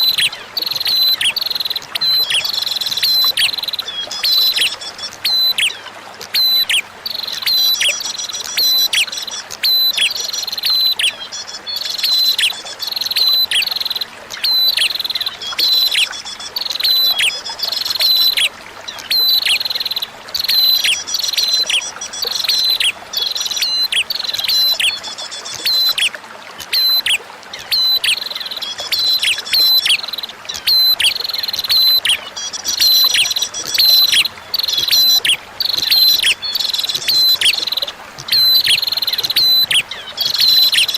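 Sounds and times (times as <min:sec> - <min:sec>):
bird chirping song: 0:00.0 - 0:40.9
faint running water: 0:00.0 - 0:40.9.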